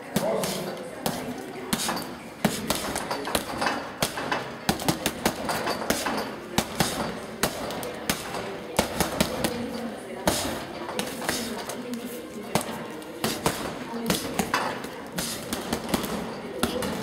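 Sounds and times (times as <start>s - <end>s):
gloves punching a bag: 0.0s - 11.8s, 12.5s - 17.0s.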